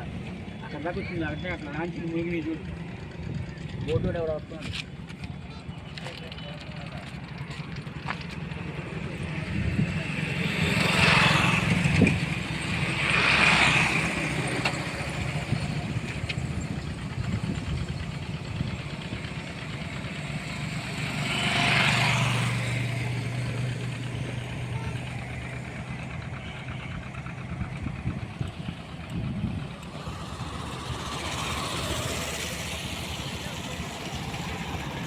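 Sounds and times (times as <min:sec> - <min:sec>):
motor engine running: 0:00.0 - 0:35.0.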